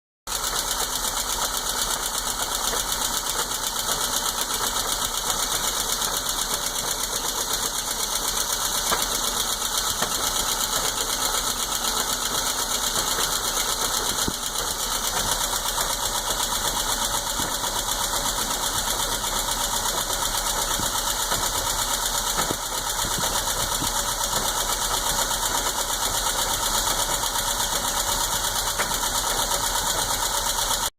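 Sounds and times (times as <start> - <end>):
car engine idling: 0.3 - 30.9
engine knocking: 0.3 - 30.9.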